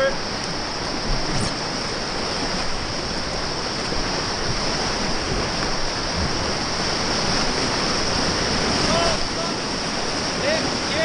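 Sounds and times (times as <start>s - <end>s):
river whitewater rushing: 0.0s - 11.0s.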